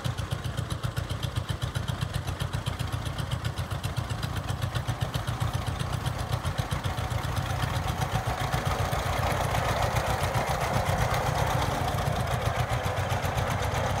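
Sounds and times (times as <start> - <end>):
tractor engine driving by: 0.0 - 14.0.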